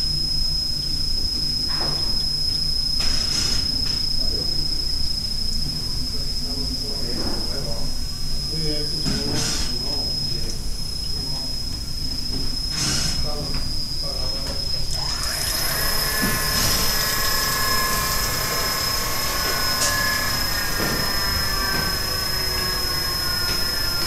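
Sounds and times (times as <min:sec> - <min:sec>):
milling machine whine and rumble: 0:00.0 - 0:24.0
multi-tone mechanical whine with hiss: 0:00.0 - 0:24.0.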